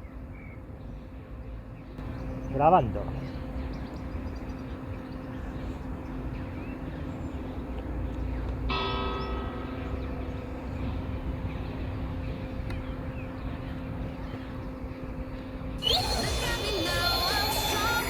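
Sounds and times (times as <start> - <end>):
steady hum: 2.0 - 18.0.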